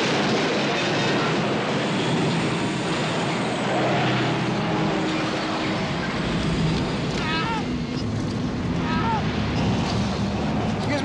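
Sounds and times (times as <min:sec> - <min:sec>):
car and truck engines running hard: 0:00.0 - 0:11.0.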